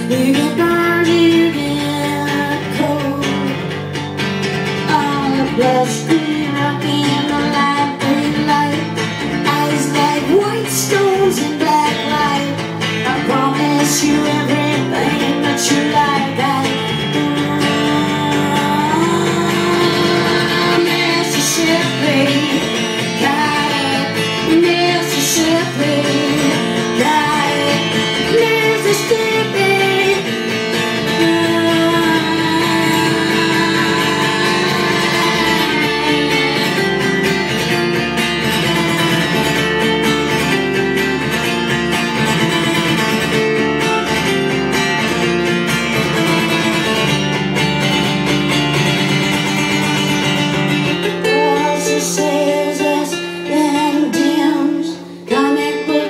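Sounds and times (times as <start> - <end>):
woman singing into a microphone: 0.0 - 41.3, 49.1 - 56.0
acoustic guitar strumming: 0.0 - 56.0.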